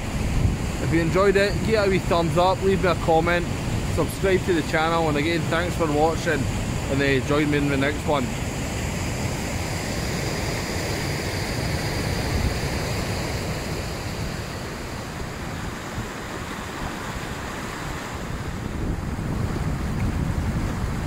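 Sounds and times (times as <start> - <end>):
water rushing over rocks: 0.0 - 21.0
wind buffeting microphone: 0.0 - 21.0.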